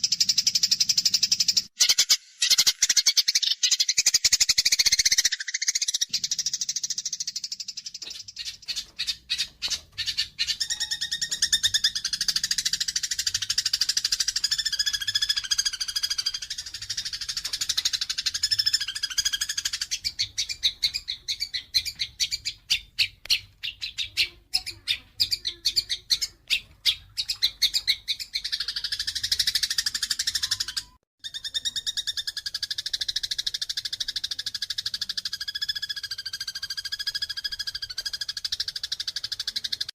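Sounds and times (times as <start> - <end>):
sparrows chattering and chirping: 0.0 - 39.9.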